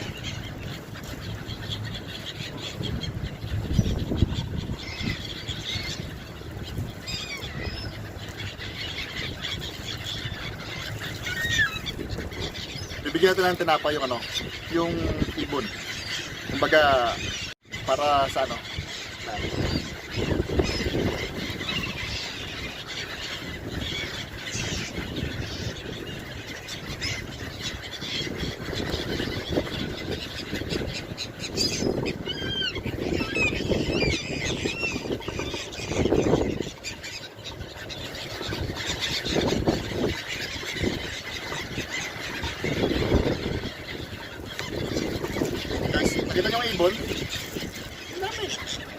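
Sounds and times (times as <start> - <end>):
gulls calling: 0.0 - 48.9.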